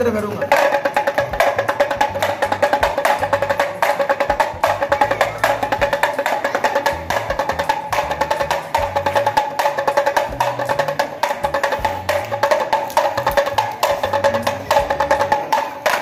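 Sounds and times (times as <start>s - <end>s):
hand drum rattling: 0.0s - 16.0s.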